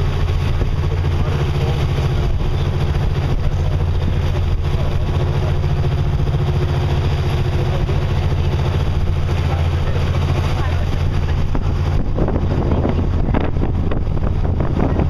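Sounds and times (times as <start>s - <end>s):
small boat engine droning: 0.0s - 15.0s.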